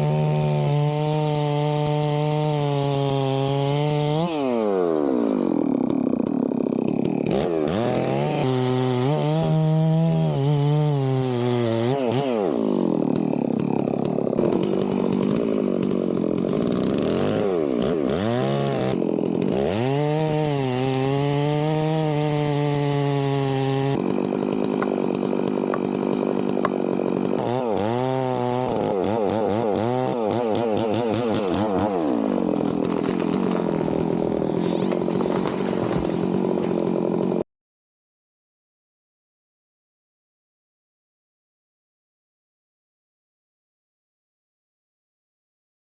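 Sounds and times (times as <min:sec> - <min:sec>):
chainsaw cutting wood: 0:00.0 - 0:37.5.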